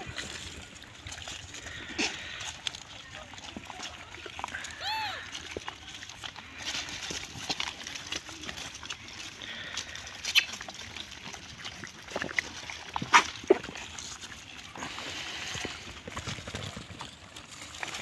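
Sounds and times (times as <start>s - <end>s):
monkeys scuffling and rustling: 0.0s - 18.0s.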